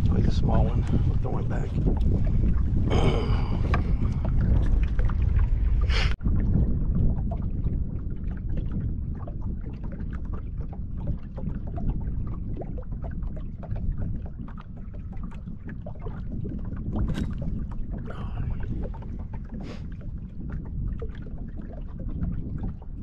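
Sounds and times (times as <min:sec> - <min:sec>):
waves lapping against hull: 0:00.0 - 0:23.0
wind rumble on microphone: 0:00.0 - 0:23.0.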